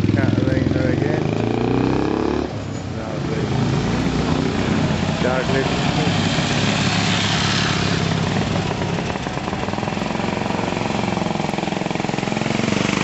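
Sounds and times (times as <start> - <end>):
motorcycle engine running: 0.0 - 2.4, 4.0 - 13.0.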